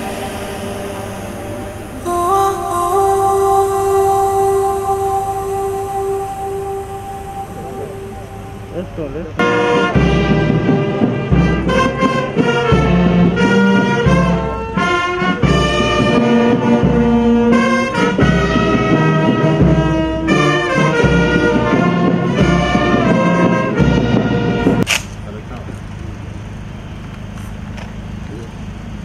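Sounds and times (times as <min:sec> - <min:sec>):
brass band playing: 0:00.0 - 0:24.8.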